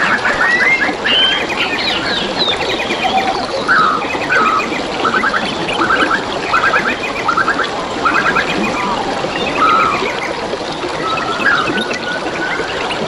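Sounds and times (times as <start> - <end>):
forest birds calling: 0.0 - 10.4, 11.0 - 12.9
trickle of flowing water: 0.0 - 13.0.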